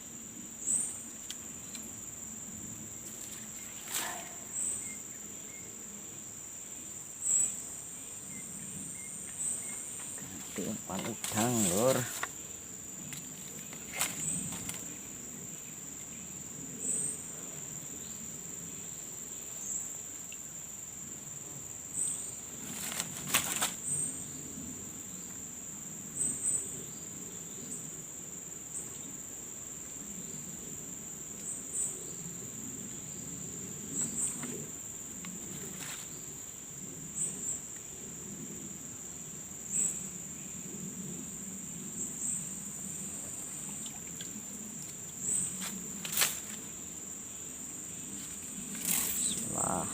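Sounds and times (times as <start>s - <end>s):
insects chirping chorus: 0.0s - 49.9s.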